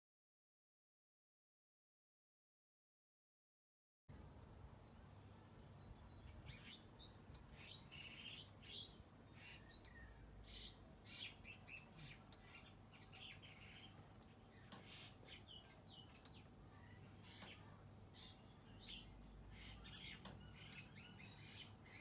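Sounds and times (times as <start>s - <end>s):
faint low hum: 4.1s - 22.0s
small birds chirping: 4.1s - 22.0s.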